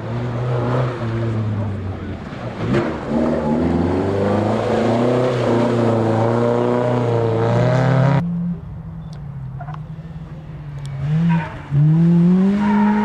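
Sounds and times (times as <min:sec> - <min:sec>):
rally car engine revving: 0:00.0 - 0:08.8, 0:09.6 - 0:13.0.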